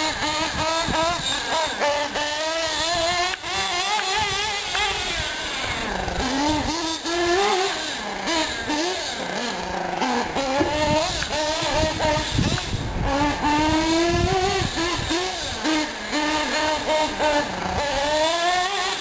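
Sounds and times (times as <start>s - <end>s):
small engine high buzz revving: 0.0s - 19.0s.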